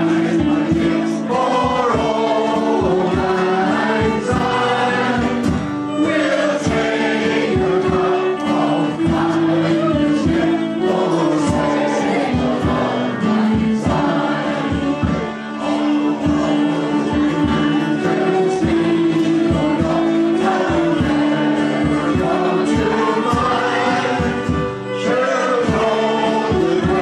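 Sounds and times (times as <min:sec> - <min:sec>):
acoustic guitar: 0:00.0 - 0:27.0
fiddle: 0:00.0 - 0:27.0
frame drum steady beat: 0:00.0 - 0:27.0
voices singing: 0:00.0 - 0:27.0.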